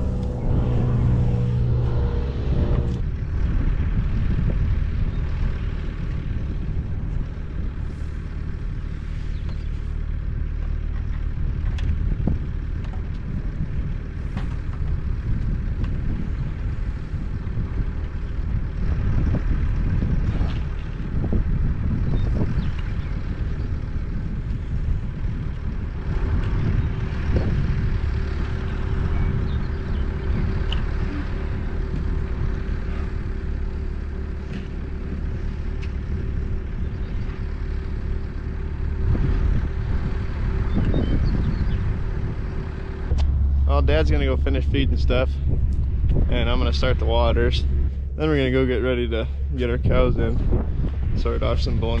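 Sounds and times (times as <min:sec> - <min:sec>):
vehicle engine rumbling: 0:00.0 - 0:52.0.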